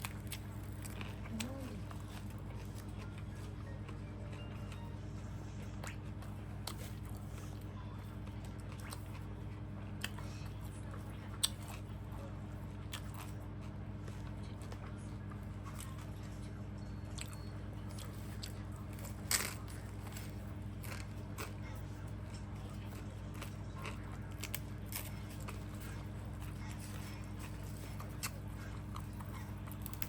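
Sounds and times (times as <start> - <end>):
person chewing food: 0.0 - 30.0
steady low hum: 0.0 - 30.0.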